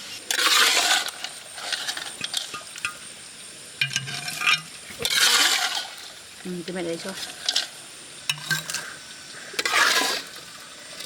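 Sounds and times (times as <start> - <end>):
fat sizzling in a pan: 0.0 - 11.0.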